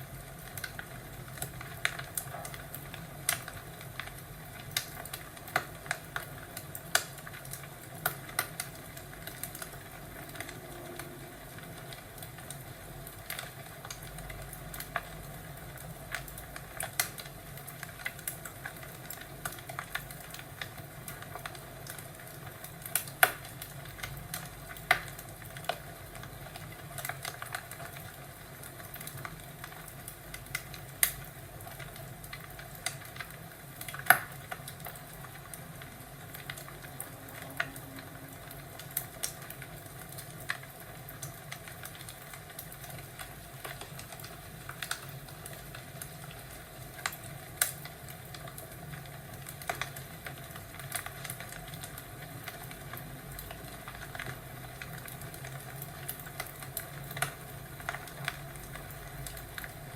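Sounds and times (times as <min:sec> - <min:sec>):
fireplace crackling and popping: 0:00.0 - 0:59.9.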